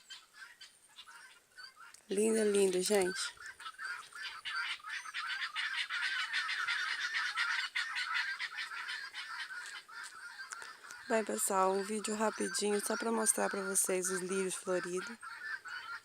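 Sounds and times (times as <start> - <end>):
guinea fowl calling: 0.0 - 16.0.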